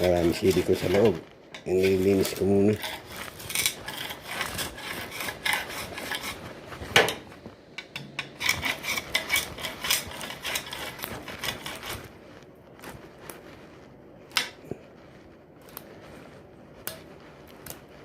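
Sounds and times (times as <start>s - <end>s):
scraping silicone: 0.0s - 18.0s.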